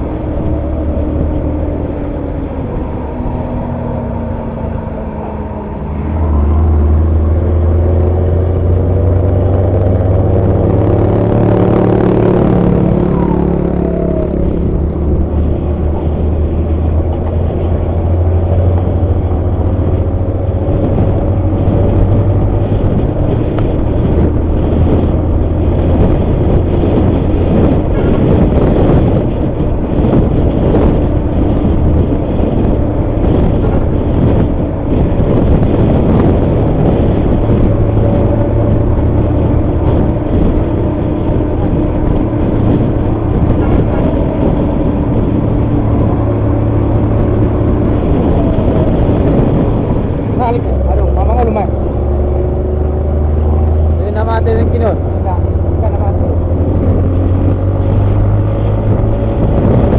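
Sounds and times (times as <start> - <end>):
diesel engine deep exhaust drone: 0.0 - 59.9.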